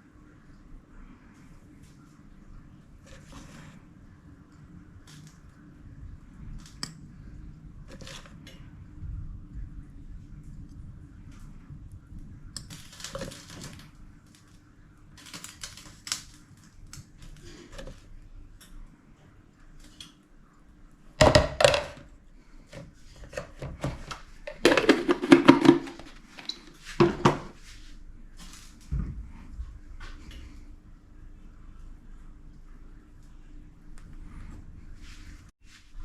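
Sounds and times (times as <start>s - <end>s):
faint hum: 0.0s - 36.0s.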